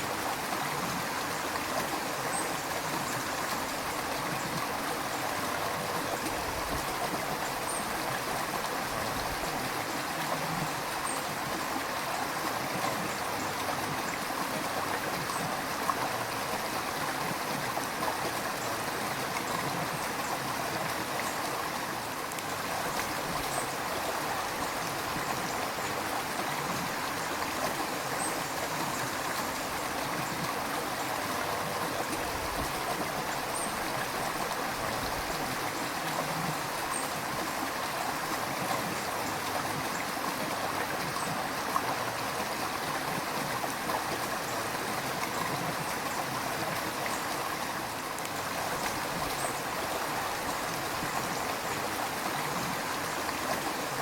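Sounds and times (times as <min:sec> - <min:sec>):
river water rushing and gurgling: 0:00.0 - 0:54.0.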